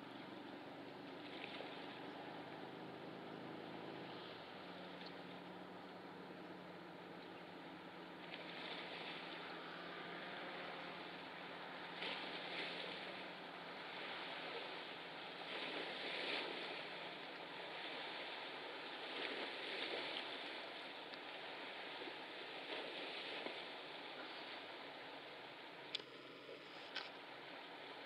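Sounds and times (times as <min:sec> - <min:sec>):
water at the shore: 0:00.0 - 0:28.0
wind: 0:00.0 - 0:28.0.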